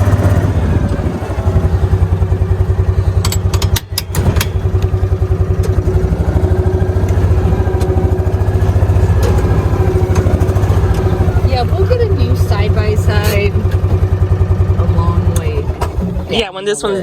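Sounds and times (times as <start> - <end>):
sharp clicks and rattles: 0.0 - 16.4
small gasoline engine running: 0.0 - 16.5.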